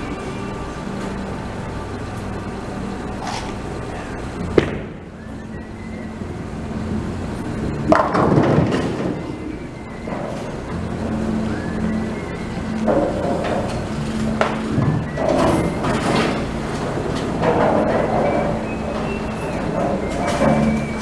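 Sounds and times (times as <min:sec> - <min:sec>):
bar background noise: 0:00.0 - 0:21.0
bowling ball rolling: 0:00.0 - 0:21.0
bowling pins crashing: 0:00.0 - 0:21.0.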